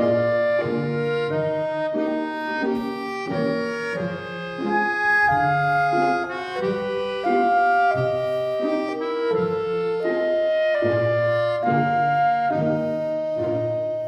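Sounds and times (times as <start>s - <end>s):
reedy instrumental melody: 0.0s - 14.0s.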